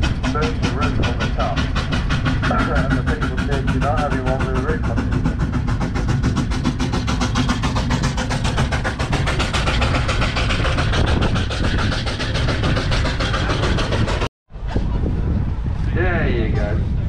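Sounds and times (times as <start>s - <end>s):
tractor diesel engine running: 0.0s - 14.3s.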